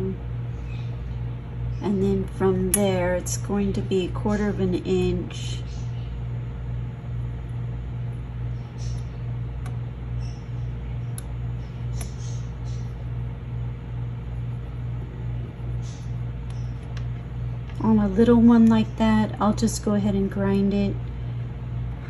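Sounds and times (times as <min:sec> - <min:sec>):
steady low hum with pulse: 0:00.0 - 0:22.0.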